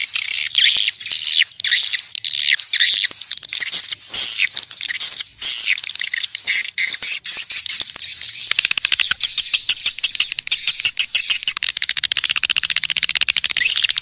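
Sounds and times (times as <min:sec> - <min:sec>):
swiftlets chirping: 0:00.0 - 0:14.0.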